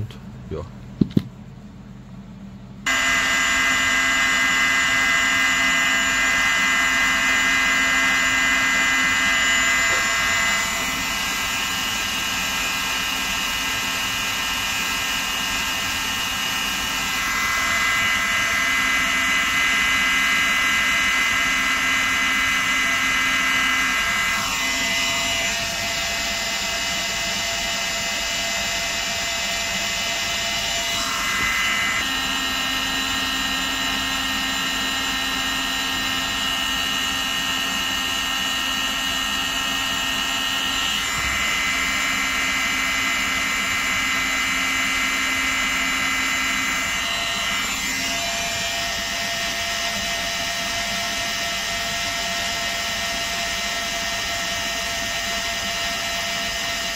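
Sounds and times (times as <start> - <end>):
oscillating multitool buzzing: 2.9 - 56.9.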